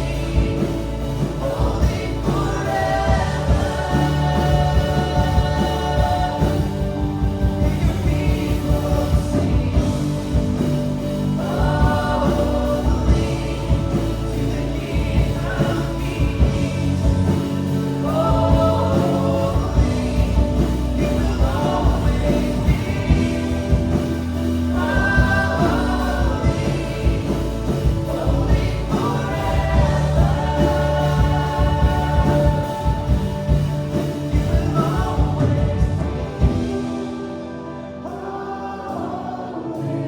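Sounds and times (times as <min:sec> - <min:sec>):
live worship band with singers: 0:00.0 - 0:40.0.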